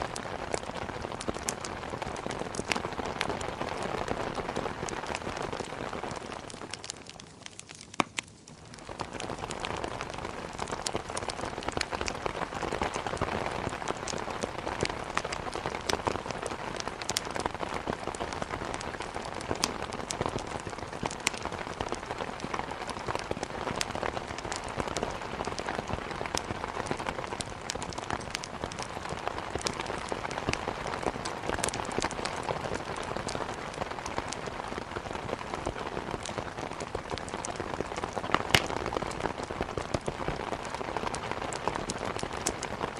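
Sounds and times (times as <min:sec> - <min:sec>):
steady rain: 0:00.0 - 0:42.9
wood fire crackling: 0:00.0 - 0:42.9.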